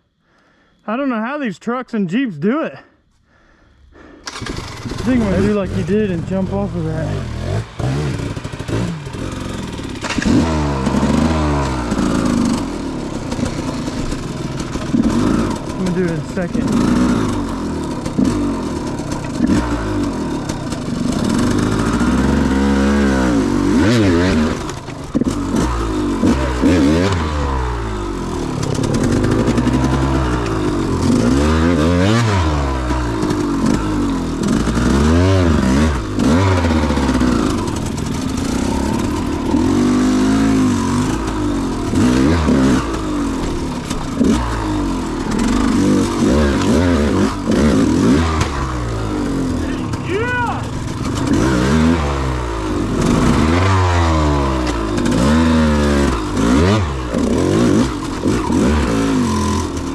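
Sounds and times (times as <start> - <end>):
dirt bike engine revving: 4.3 - 59.9.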